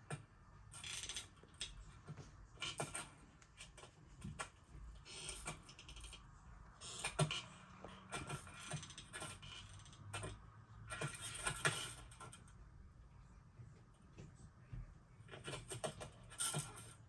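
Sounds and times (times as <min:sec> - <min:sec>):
small clicks taps and rustles: 0:00.0 - 0:12.7, 0:13.3 - 0:17.0.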